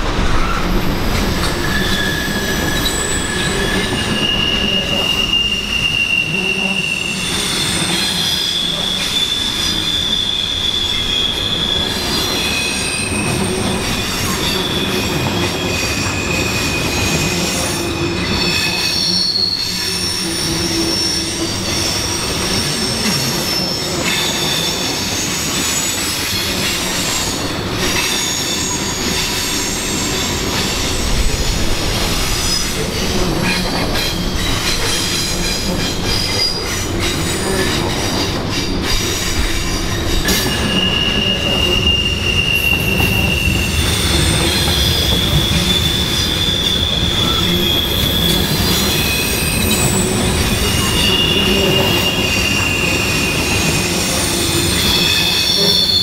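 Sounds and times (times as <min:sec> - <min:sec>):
freight train cars rumbling: 0:00.0 - 0:56.0
train wheels squealing: 0:00.1 - 0:56.0.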